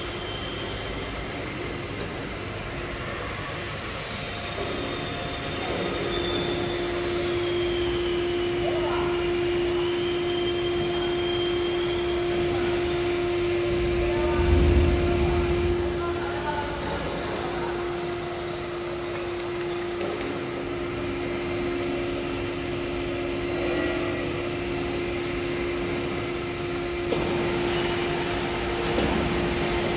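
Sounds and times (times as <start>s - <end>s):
engraving machine running: 0.0s - 29.9s.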